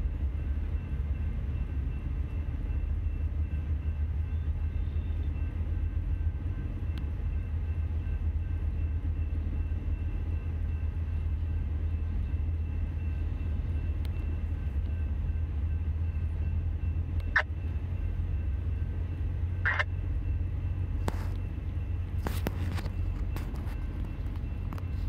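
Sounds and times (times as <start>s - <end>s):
freight train rumbling past: 0.0s - 25.0s
train wheel squeals: 0.0s - 25.0s.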